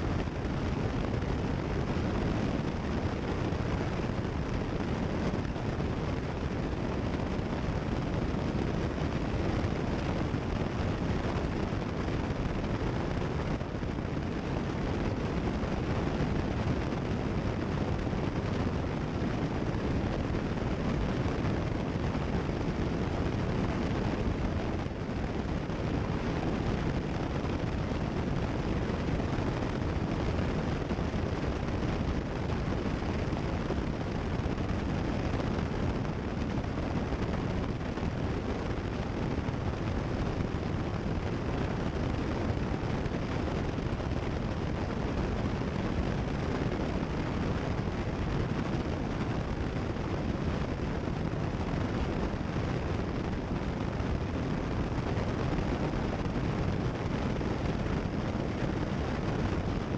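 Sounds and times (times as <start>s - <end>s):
propeller airplane engine drone: 0.0s - 59.9s.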